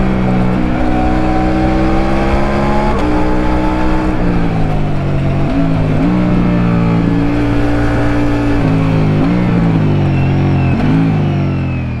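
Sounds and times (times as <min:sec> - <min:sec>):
motorcycle engine downshifting: 0:00.0 - 0:12.0.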